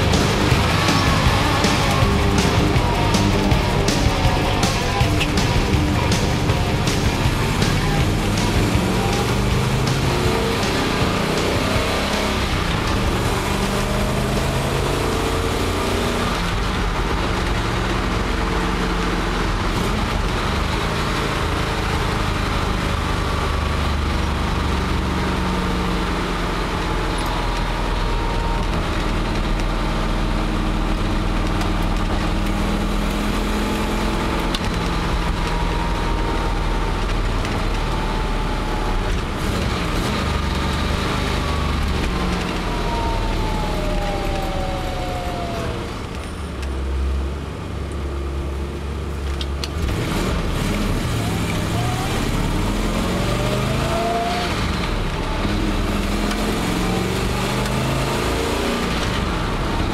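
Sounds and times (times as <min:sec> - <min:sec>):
car engine drone: 0:00.0 - 0:59.9
road noise: 0:00.0 - 0:59.9.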